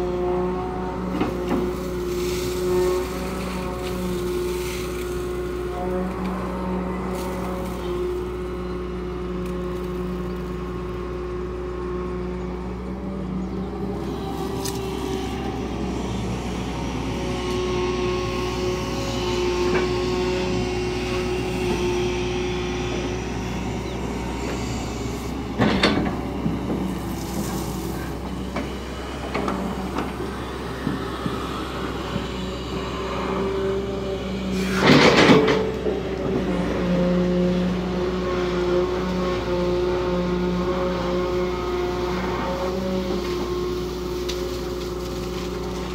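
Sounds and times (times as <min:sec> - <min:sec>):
excavator engine and hydraulics: 0:00.0 - 0:45.9.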